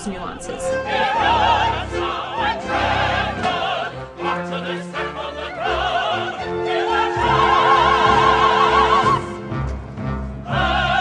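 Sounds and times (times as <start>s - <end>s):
operatic singing with vibrato: 0.0s - 9.6s, 10.3s - 11.0s
orchestral accompaniment: 0.0s - 11.0s.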